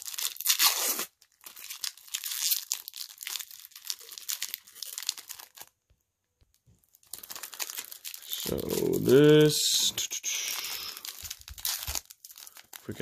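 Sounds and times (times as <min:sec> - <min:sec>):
foil wrapper crinkling and tearing: 0:00.0 - 0:05.8, 0:06.5 - 0:13.0.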